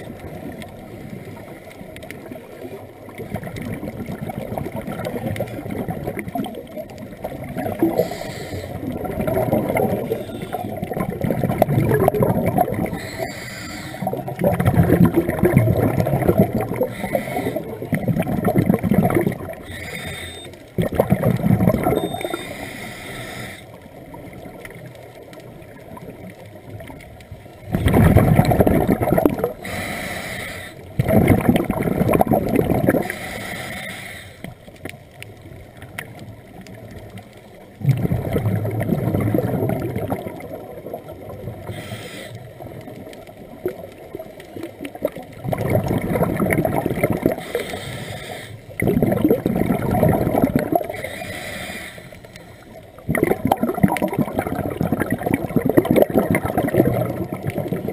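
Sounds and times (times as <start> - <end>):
underwater bubbles from diver exhaling: 0.0 - 57.9.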